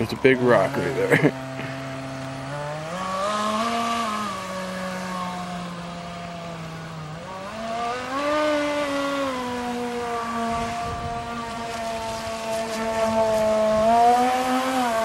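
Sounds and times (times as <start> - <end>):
electric jet drive whining: 0.0 - 15.0.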